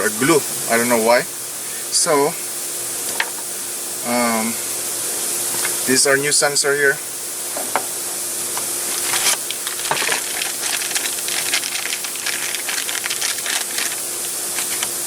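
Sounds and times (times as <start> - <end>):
faint hum: 0.0 - 15.0
steady hiss: 0.0 - 15.0.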